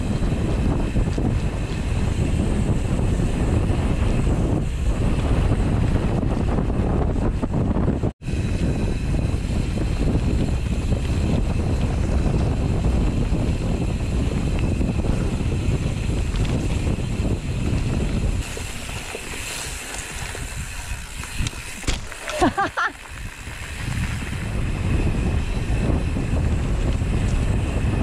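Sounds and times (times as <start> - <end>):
bike rattling over rough ground: 0.0 - 28.0
wind buffeting microphone: 0.0 - 28.0.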